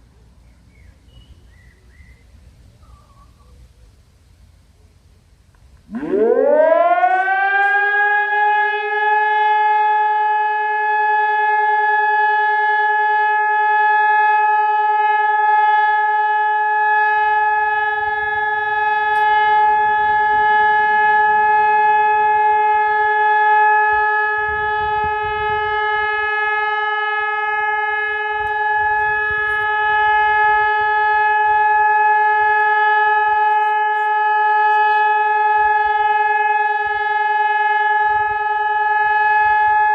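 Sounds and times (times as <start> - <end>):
electronic warning siren: 5.8 - 39.9.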